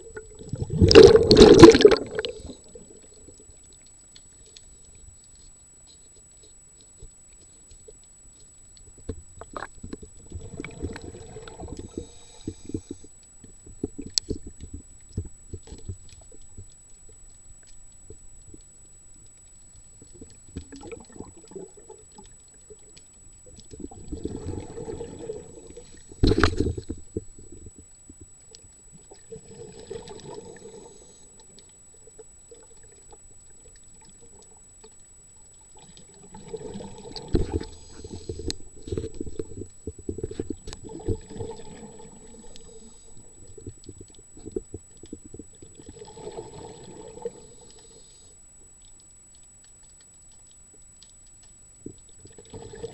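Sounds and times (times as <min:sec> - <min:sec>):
water bubbling and sloshing: 0:00.0 - 0:52.9.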